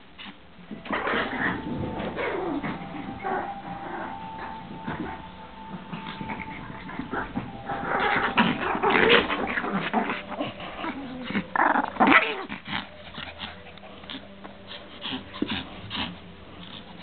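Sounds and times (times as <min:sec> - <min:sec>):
small dogs growling: 0:00.2 - 0:17.0.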